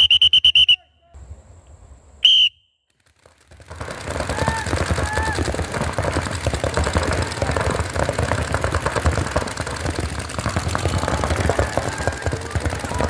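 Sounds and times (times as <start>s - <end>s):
paintball markers firing: 2.4s - 13.0s.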